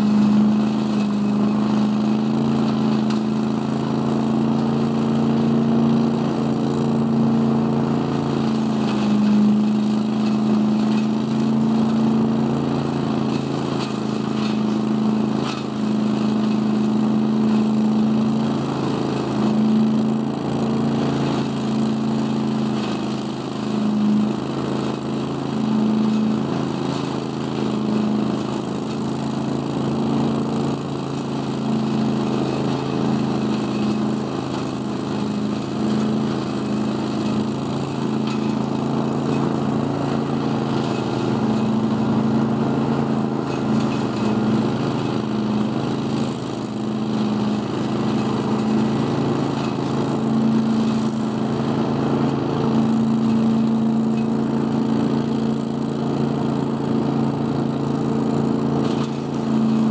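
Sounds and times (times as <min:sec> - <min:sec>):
leaf vacuum engine running: 0:00.0 - 0:59.9.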